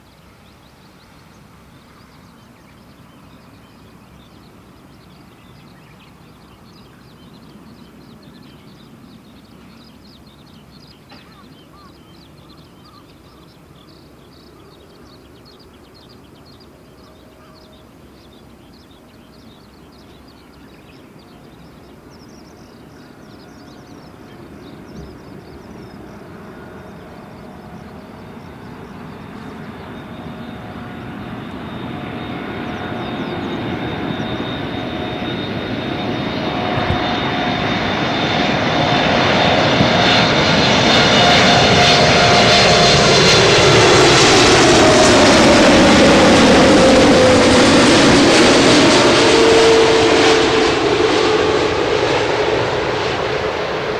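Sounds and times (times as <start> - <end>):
jet engine noise: 0.0 - 53.9
jet engine whine: 0.0 - 53.9.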